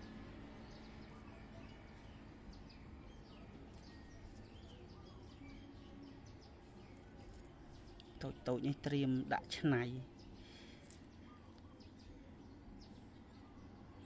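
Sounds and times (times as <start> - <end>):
birds chirping: 0.0 - 14.0
low steady hum: 0.0 - 14.0.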